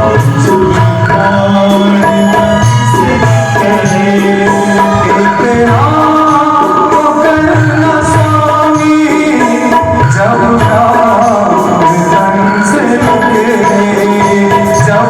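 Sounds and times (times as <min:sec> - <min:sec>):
tabla rhythm: 0:00.0 - 0:15.0.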